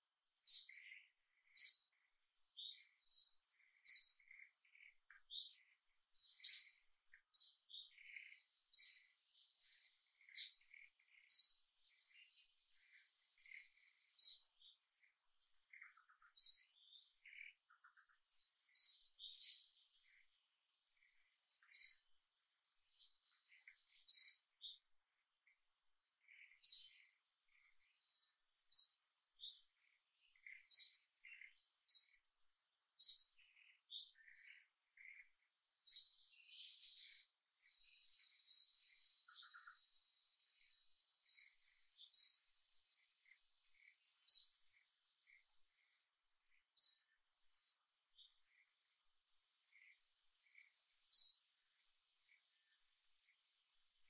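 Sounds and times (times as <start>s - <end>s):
bird chirping: 0.0s - 54.0s
faint high insect whine: 0.0s - 54.0s.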